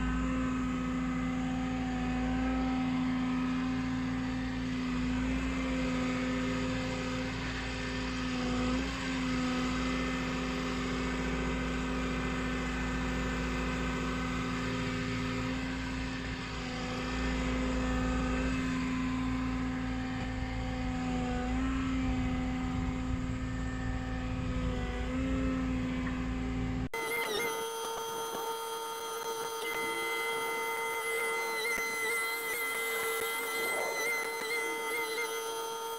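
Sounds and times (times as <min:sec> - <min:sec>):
excavator engine and hydraulics hum: 0:00.0 - 0:35.9.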